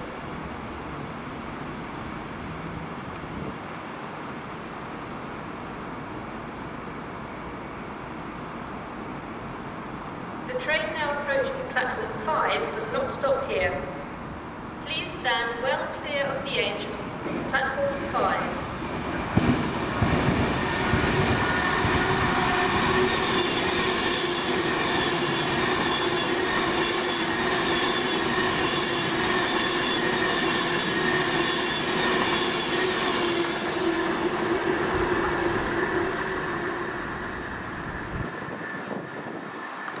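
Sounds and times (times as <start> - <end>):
train running on rails: 0.0 - 40.0.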